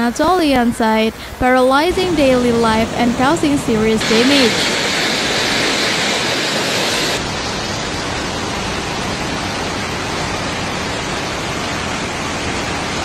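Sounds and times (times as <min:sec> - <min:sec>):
floodwater rushing: 0:00.2 - 0:13.0.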